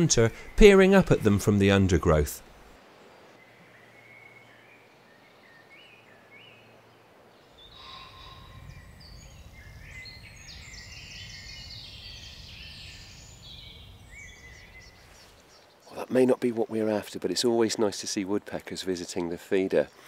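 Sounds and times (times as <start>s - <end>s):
small birds singing: 2.0s - 20.0s.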